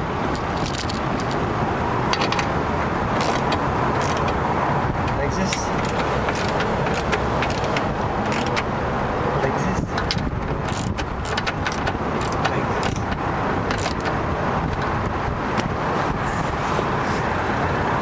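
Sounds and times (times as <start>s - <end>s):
steady background rumble: 0.0s - 18.0s.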